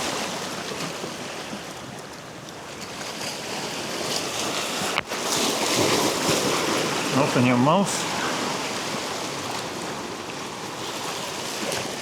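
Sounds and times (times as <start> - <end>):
sea waves rushing: 0.0 - 12.0.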